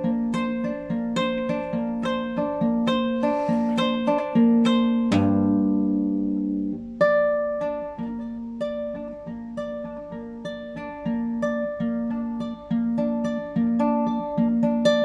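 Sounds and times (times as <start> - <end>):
classical guitar playing: 0.0 - 15.0.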